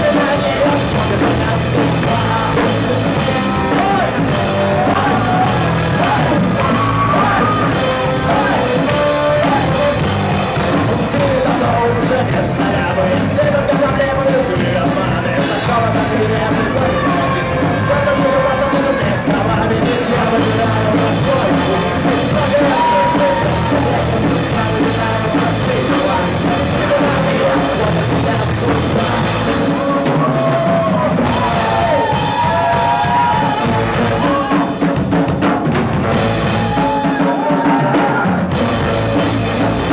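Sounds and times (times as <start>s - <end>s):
lead vocalist singing: 0.0s - 35.0s, 36.4s - 39.9s
rock band playing live: 0.0s - 39.9s.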